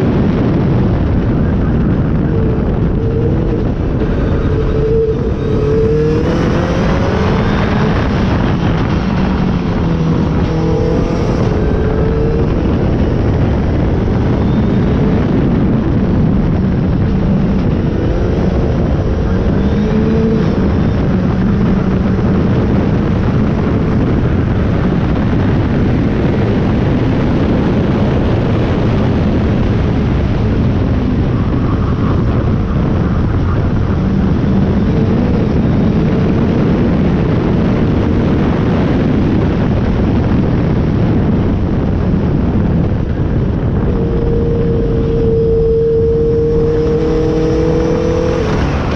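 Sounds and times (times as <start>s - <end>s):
car engine and exhaust revving: 0.0s - 48.9s
heavy wind and road noise: 0.0s - 48.9s.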